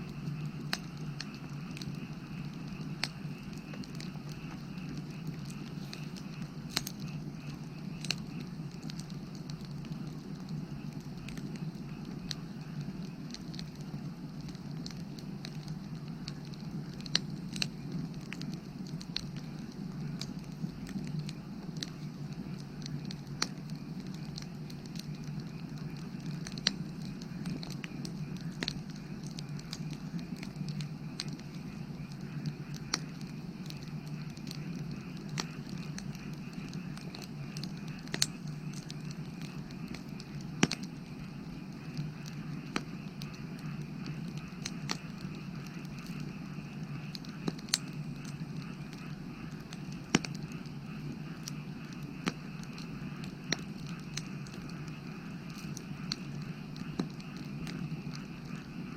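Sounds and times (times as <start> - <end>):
firewood crackling and popping: 0.0 - 58.9.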